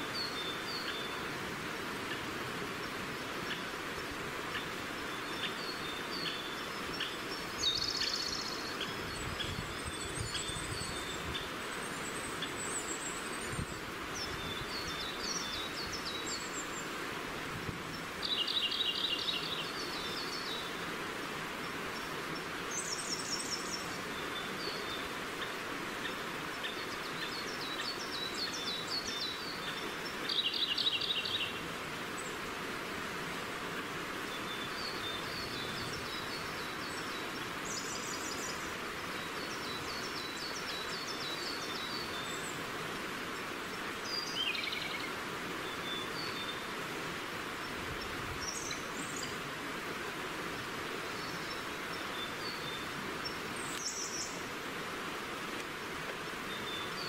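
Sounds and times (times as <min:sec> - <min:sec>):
birds singing trills: 0:00.0 - 0:01.3, 0:04.4 - 0:17.0, 0:17.9 - 0:20.9, 0:21.6 - 0:32.4, 0:33.8 - 0:46.8, 0:47.6 - 0:49.4, 0:50.9 - 0:54.5, 0:56.3 - 0:57.0
stream running: 0:00.0 - 0:57.0.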